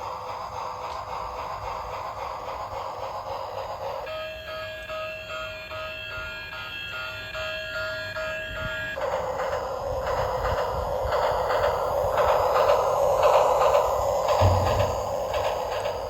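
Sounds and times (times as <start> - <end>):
toy train chugging sound effect: 0.0 - 16.0.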